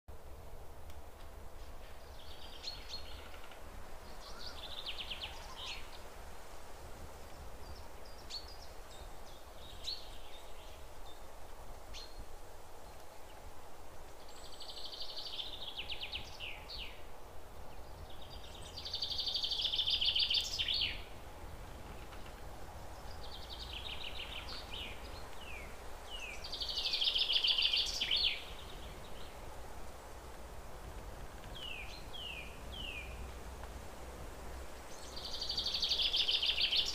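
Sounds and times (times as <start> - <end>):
steady background noise: 0.1 - 36.9
songbirds singing: 1.6 - 6.2, 7.2 - 33.8, 34.4 - 36.9.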